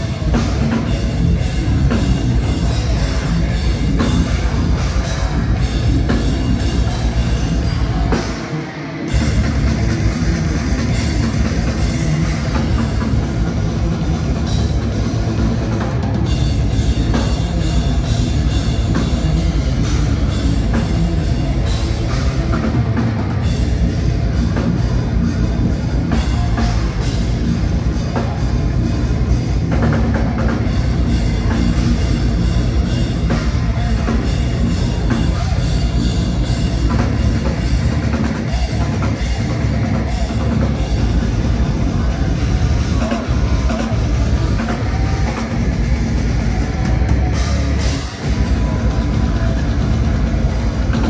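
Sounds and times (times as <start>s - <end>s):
heavy metal band playing: 0.0s - 51.0s
pounding drum kit: 0.0s - 51.0s.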